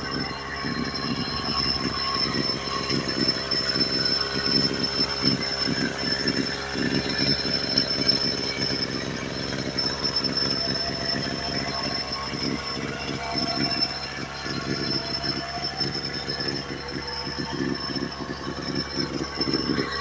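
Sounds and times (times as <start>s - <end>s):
brush cutter engine running: 0.0s - 20.0s
high whine: 0.0s - 20.0s.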